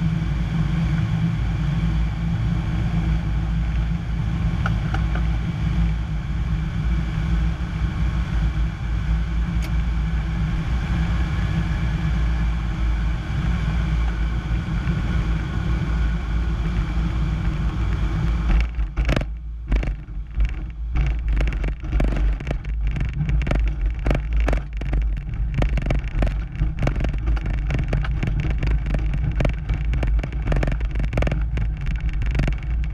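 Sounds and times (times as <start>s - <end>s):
plane engine and propeller: 0.0s - 32.9s.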